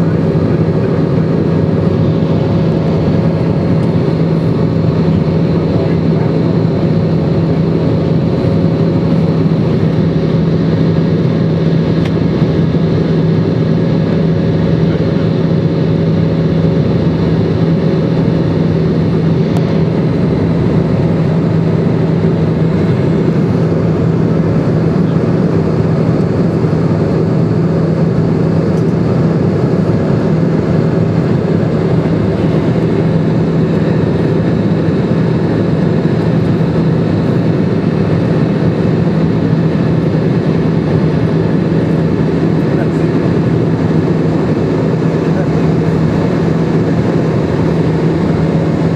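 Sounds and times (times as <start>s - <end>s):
jet engines droning: 0.0s - 48.9s
low hum: 0.0s - 48.9s.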